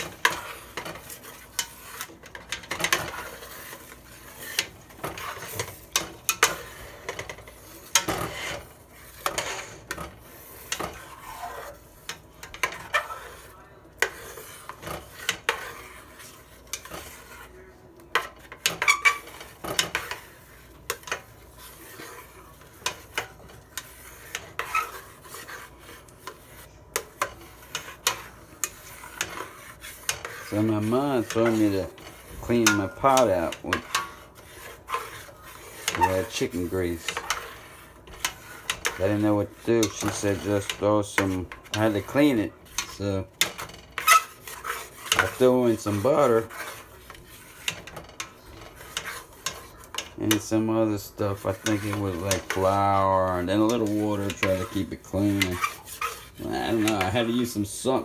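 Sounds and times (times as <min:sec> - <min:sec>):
utensil scraping pot bottom: 0:00.0 - 0:58.0.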